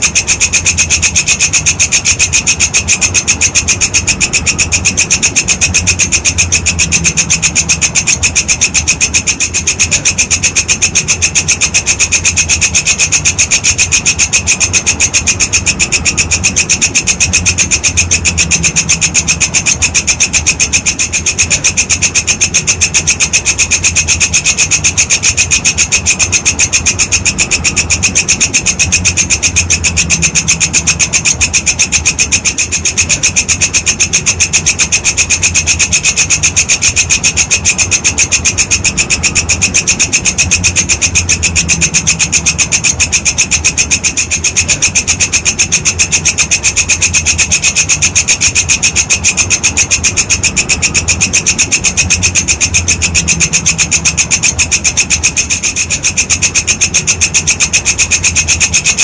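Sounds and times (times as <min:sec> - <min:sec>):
grasshopper rasping call: 0:00.0 - 0:59.0
low hum: 0:00.0 - 0:59.0.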